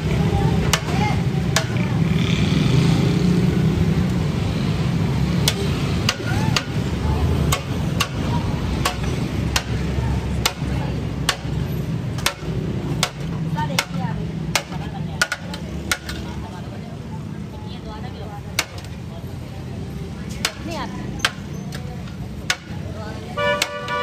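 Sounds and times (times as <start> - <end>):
crowd chatter: 0.0 - 24.0
low street hum: 0.0 - 24.0.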